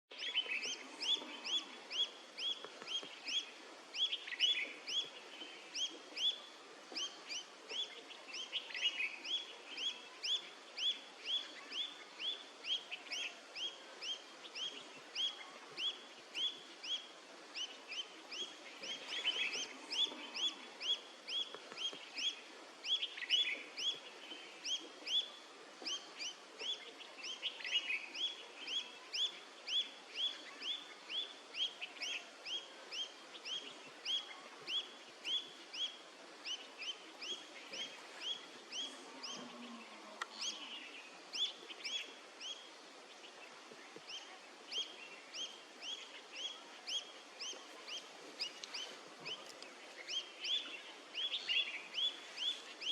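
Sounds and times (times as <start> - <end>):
bird chirping: 0.1 - 52.9.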